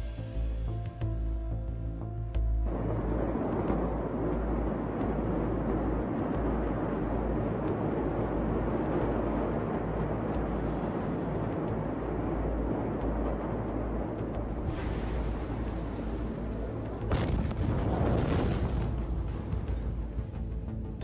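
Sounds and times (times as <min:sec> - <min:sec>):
loud outdoor rumbling: 0:02.6 - 0:21.0.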